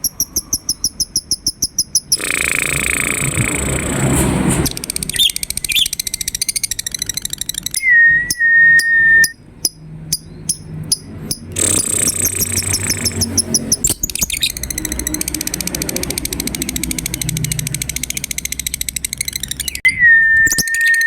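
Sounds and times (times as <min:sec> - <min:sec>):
lovebird chattering trill: 0:00.0 - 0:03.8, 0:04.7 - 0:21.0.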